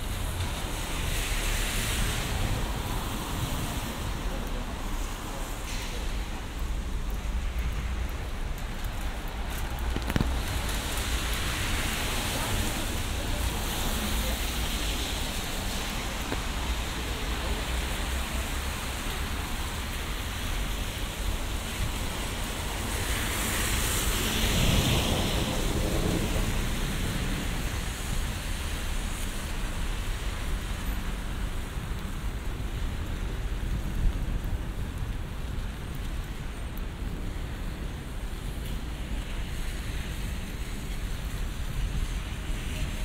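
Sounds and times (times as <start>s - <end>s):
rain hiss: 0.0s - 43.0s
vehicle passing on wet road: 0.0s - 43.0s
wet city traffic: 0.0s - 43.0s.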